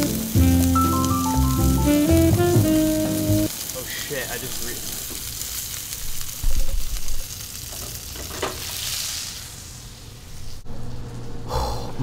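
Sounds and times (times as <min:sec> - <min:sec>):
fish sizzling in a skillet: 0:00.0 - 0:10.1.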